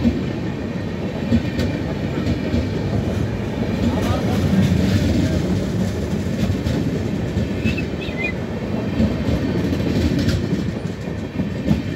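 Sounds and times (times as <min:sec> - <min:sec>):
train coaches rumbling past: 0:00.0 - 0:11.9
wheels clicking over rail joints: 0:01.0 - 0:11.9.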